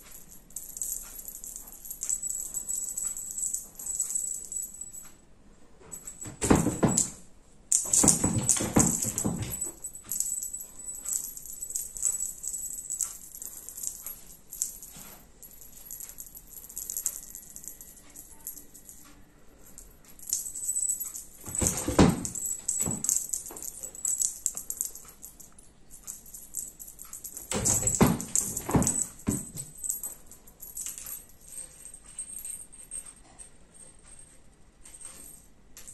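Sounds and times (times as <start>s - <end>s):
toy clicking and rattling: 0.0s - 5.2s, 5.9s - 33.4s.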